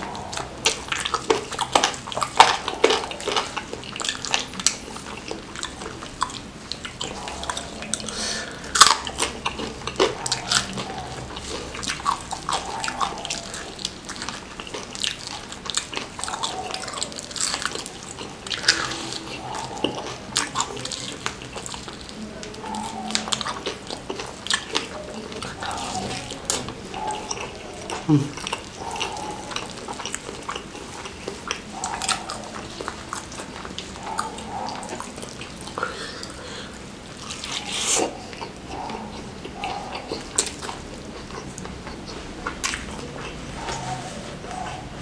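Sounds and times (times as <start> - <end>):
wet sticky chewing: 0.0 - 45.0.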